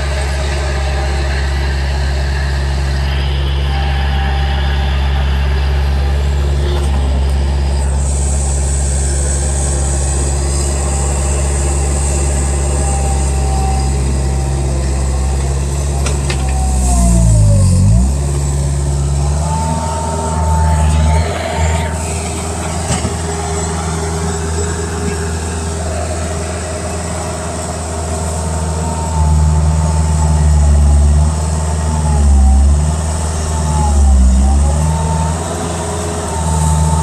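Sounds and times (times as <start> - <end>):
loader diesel engine running: 0.0 - 37.0.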